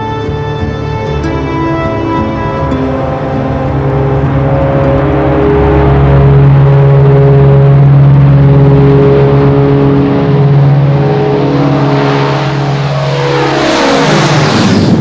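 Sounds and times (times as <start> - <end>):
piston aircraft engines droning: 0.0 - 15.0
propeller rush: 0.0 - 15.0.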